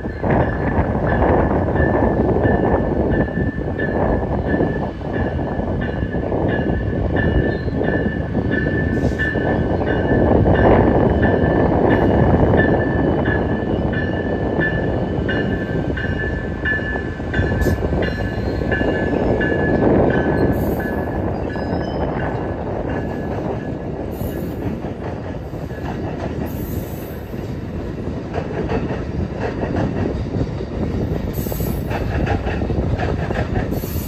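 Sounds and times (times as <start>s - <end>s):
train wheels rumbling and clacking: 0.0s - 34.0s.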